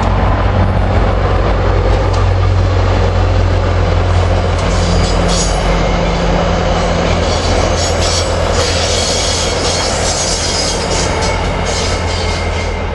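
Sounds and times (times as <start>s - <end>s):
train wheels on rail: 0.0s - 12.9s
wheels clicking over rail joints: 0.0s - 12.9s.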